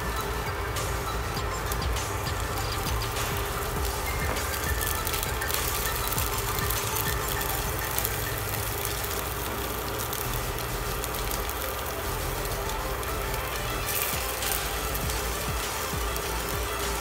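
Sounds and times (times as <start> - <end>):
meat sizzling in hot oil: 0.0 - 17.0
steady low hum: 0.0 - 17.0.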